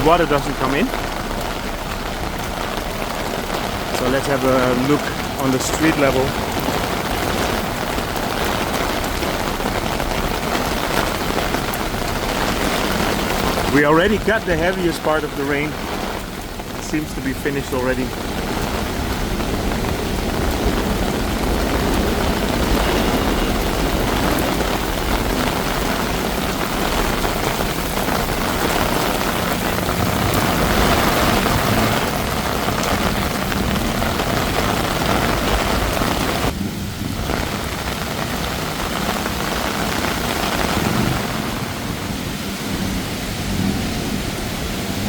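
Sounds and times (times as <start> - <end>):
rain falling on a street: 0.0 - 45.0.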